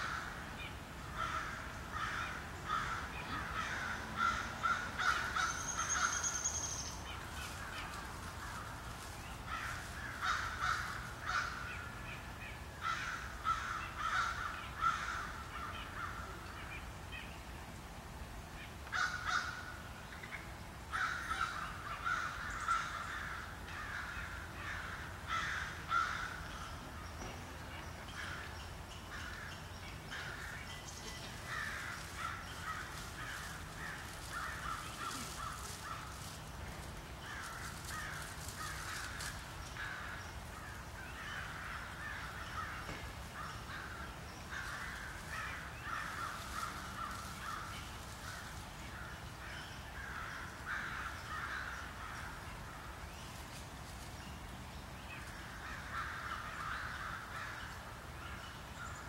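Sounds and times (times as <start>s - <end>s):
crows cawing: 0.0s - 0.5s, 1.1s - 6.6s, 7.4s - 12.0s, 12.8s - 16.4s, 18.9s - 19.9s, 20.9s - 26.8s, 29.1s - 53.0s, 55.2s - 58.4s.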